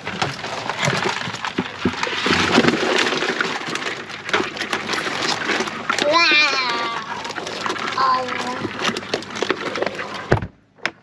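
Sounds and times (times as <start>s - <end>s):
crabs clattering in a cooler: 0.0s - 10.5s.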